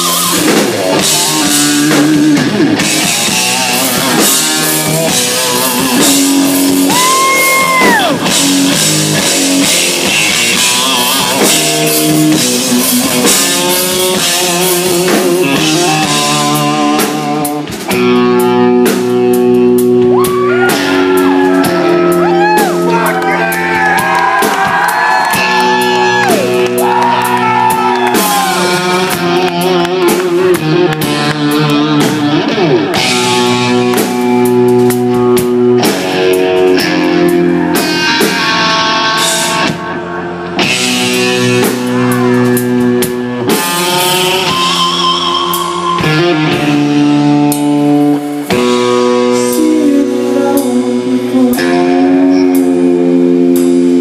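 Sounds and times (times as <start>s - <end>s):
hard rock band playing: 0.0s - 54.0s.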